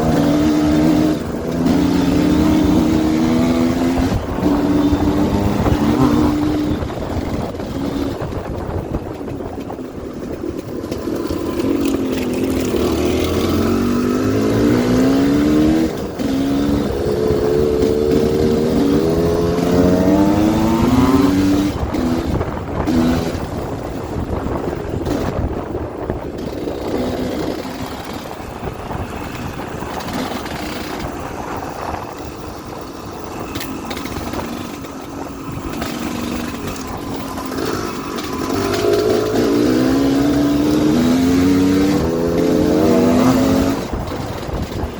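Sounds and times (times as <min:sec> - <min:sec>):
dirt bike engines revving: 0:00.0 - 0:44.9.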